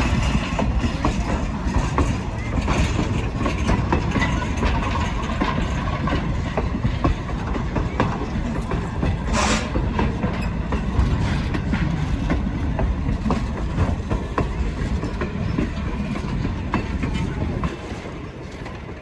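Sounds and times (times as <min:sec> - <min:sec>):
heavy low train rumble: 0:00.0 - 0:19.0
train wheels clicking on rails: 0:00.0 - 0:19.0.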